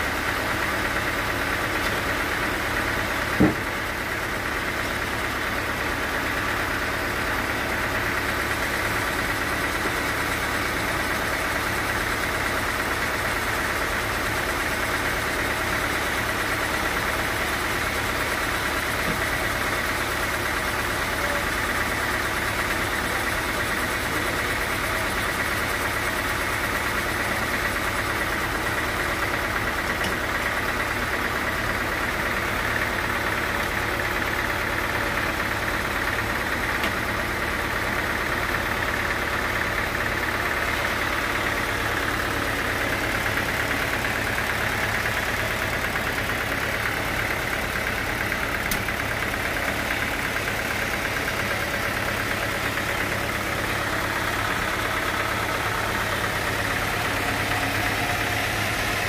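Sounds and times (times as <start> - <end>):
sawmill machine drone: 0.0 - 59.0.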